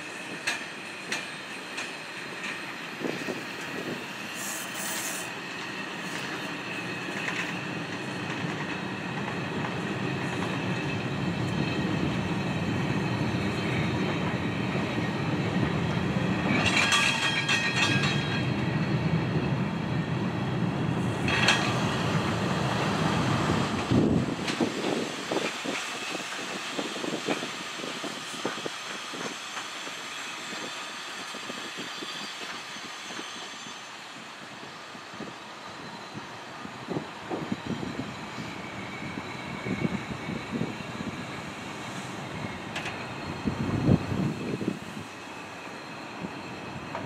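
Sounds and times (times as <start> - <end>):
clatter of train wheels: 0.0 - 19.6, 21.0 - 47.0
train wheels rumbling on rails: 0.0 - 47.0.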